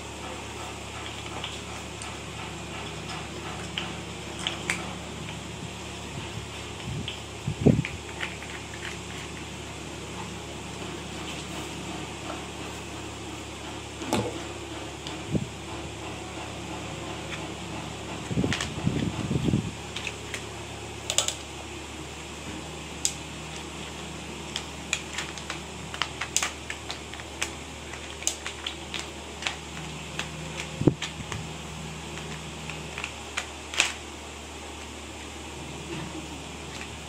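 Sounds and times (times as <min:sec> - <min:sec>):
fan hum: 0:00.0 - 0:37.0.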